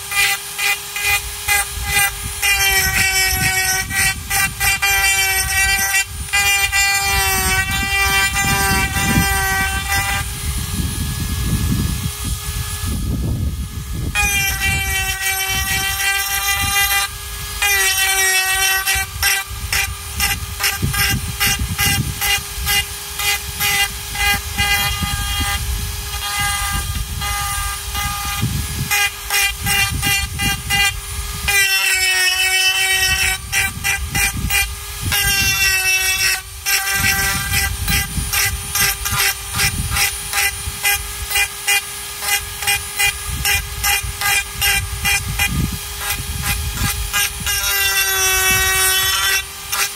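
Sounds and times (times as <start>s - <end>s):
rotary tool whine: 0.0s - 49.9s.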